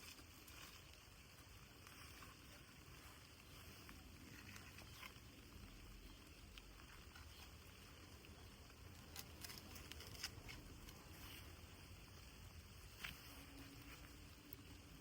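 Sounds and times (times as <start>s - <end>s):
light rain pattering: 0.0s - 15.0s.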